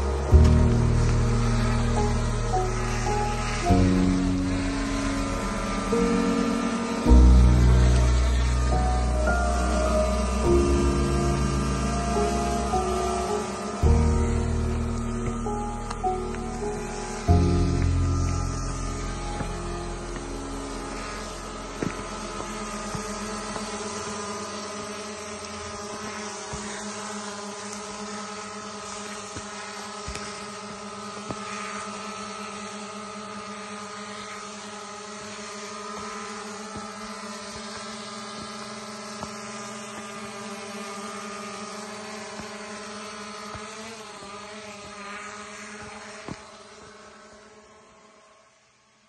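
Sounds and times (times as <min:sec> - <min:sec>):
drone propellers whining: 0:00.0 - 0:48.7.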